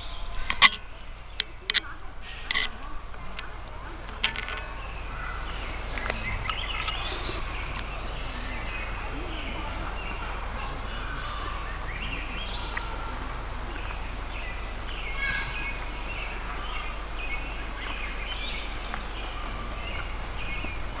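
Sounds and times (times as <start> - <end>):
birds chirping: 0.0 - 21.0
low background hum: 0.0 - 21.0.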